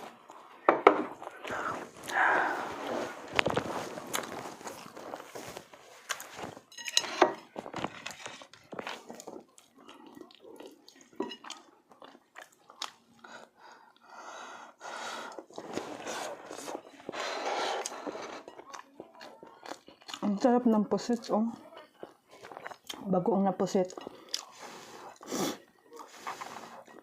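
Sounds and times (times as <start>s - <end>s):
person chewing and eating: 0.0s - 14.1s, 14.8s - 20.5s, 21.6s - 23.1s, 23.8s - 27.0s.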